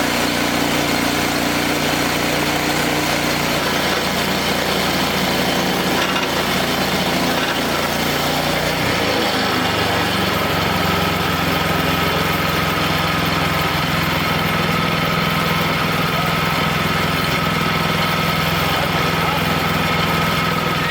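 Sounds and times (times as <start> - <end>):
small gas engine running: 0.0 - 20.9.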